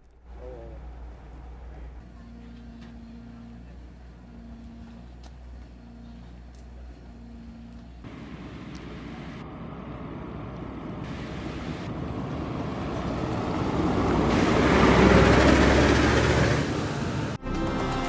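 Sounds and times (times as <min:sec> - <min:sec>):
vehicle driving past: 0:00.8 - 0:17.4.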